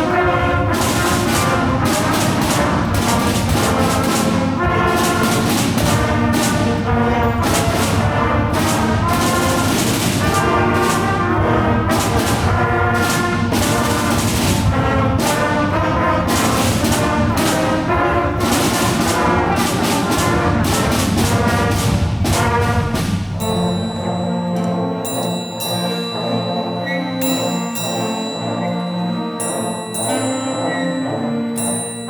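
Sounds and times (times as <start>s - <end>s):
drum hits: 0.0s - 32.0s
school band brass: 0.0s - 32.0s.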